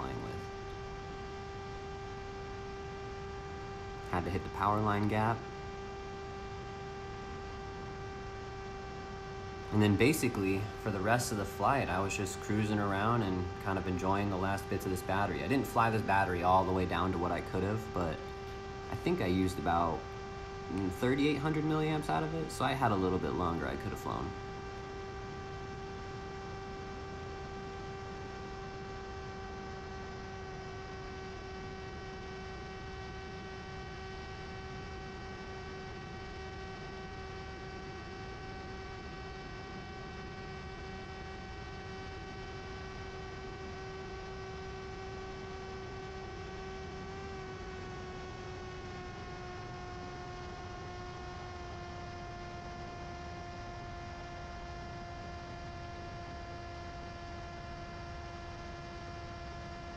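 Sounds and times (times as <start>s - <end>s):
electric motor and propeller drone: 0.0s - 59.9s.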